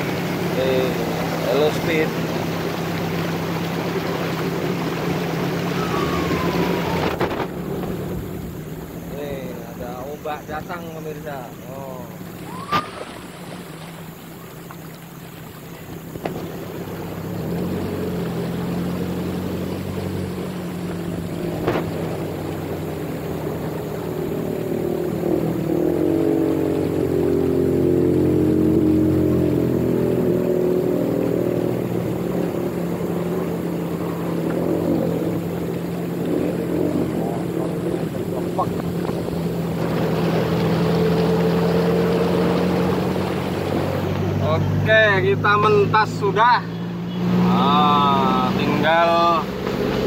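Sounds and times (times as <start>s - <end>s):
jeep engine running: 0.0s - 50.0s
water sloshing: 0.0s - 50.0s.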